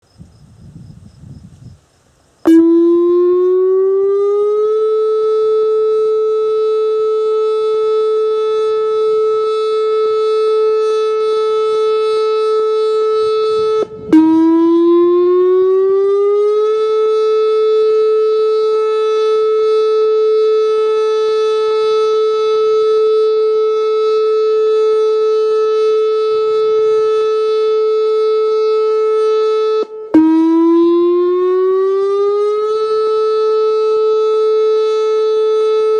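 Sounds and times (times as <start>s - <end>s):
electronic warning siren: 2.4s - 35.9s.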